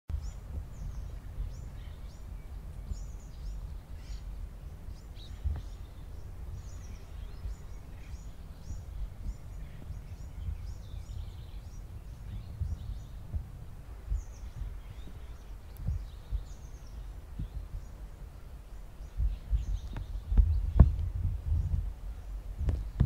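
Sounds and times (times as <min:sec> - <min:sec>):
small birds chirping: 0:00.1 - 0:23.0
steady low rumble: 0:00.1 - 0:23.0.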